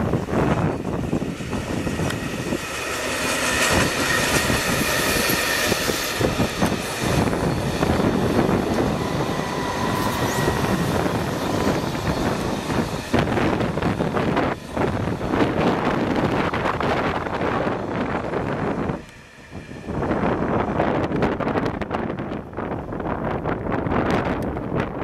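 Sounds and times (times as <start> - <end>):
train wheels rumbling on rails: 0.0 - 25.0
faint high whine: 0.1 - 20.8.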